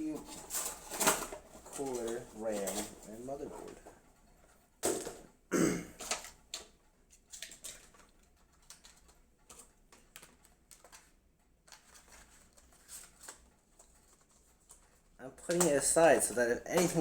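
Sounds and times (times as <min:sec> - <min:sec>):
small objects clicking and rustling: 0:00.0 - 0:05.3, 0:06.0 - 0:17.0.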